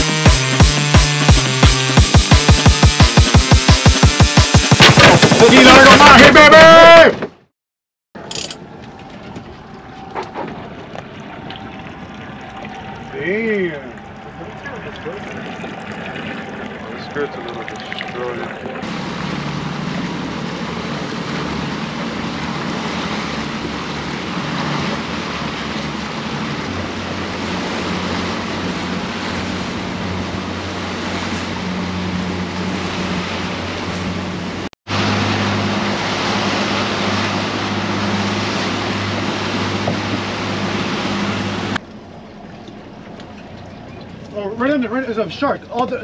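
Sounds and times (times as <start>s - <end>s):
motorboat engine drone: 0.0s - 7.0s, 8.2s - 46.0s
water rushing: 0.0s - 7.1s, 8.6s - 46.0s.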